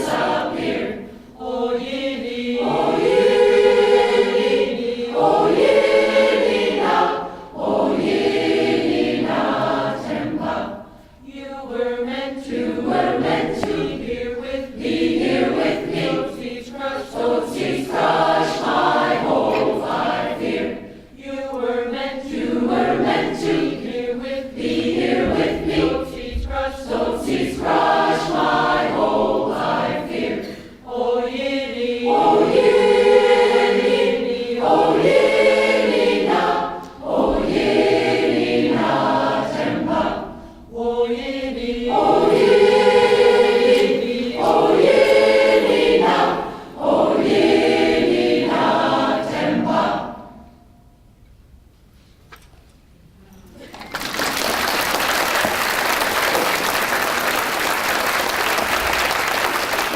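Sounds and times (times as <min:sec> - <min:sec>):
choir singing in parts: 0:00.0 - 0:51.0, 0:54.6 - 0:59.9.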